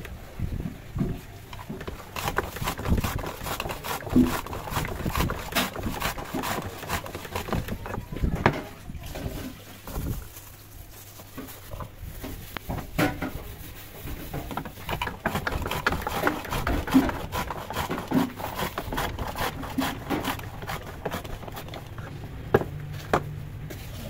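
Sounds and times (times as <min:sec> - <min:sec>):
utensils knocking and scraping on wood: 0:01.6 - 0:10.2, 0:11.3 - 0:23.2.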